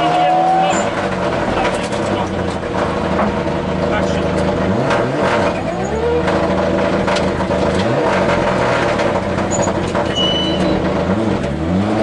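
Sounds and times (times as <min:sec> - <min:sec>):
rally car engine revving: 0:00.0 - 0:12.0
road and wind noise: 0:00.0 - 0:12.0.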